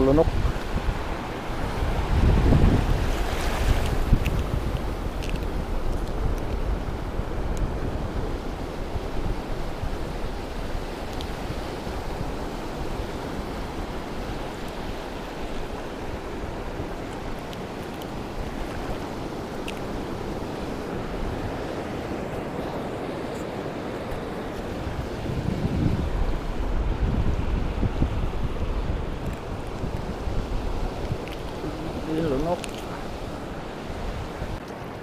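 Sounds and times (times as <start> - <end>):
small waves breaking on shore: 0.0 - 35.0
wind noise on microphone: 0.0 - 35.0.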